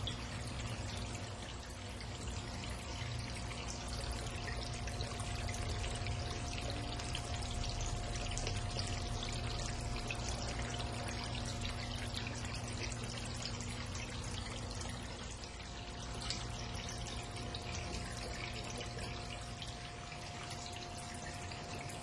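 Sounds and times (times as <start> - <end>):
faint constant hum: 0.0 - 22.0
fountain water trickling and splashing: 0.0 - 22.0.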